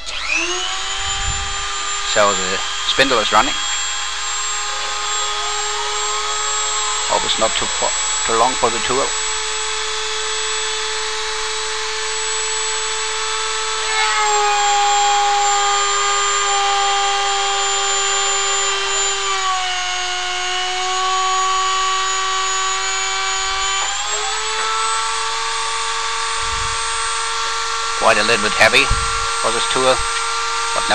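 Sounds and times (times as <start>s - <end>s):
milling spindle whine: 0.0s - 30.9s.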